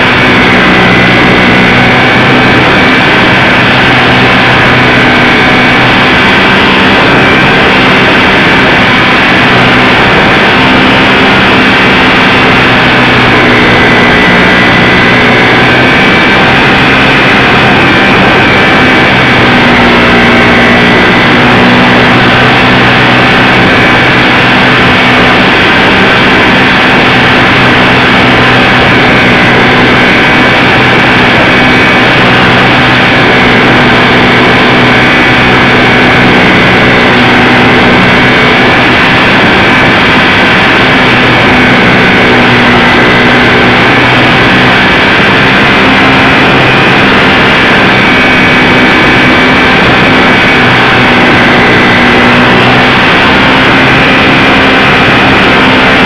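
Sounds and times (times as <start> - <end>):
model plane motor whine: 0.0 - 56.0
rushing air noise: 0.0 - 56.0.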